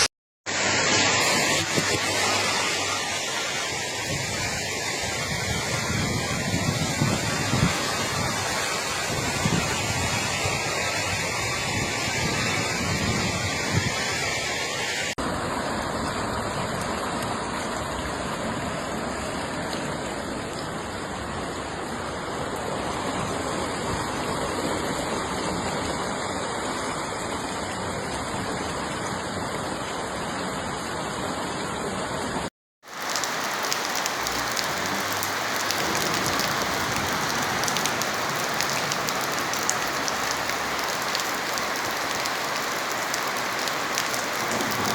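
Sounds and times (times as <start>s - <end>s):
heavy rain: 0.0s - 30.8s, 32.8s - 44.9s.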